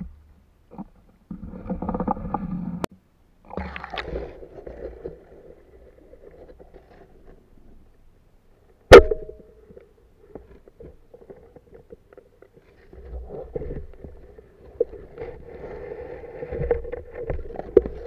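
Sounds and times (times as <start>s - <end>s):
low steady hum: 0.0s - 18.0s
water movement: 0.7s - 8.2s, 10.1s - 18.0s.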